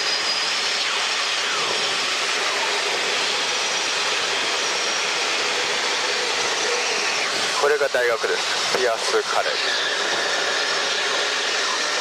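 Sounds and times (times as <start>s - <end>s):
helicopter cabin noise: 0.0s - 12.0s.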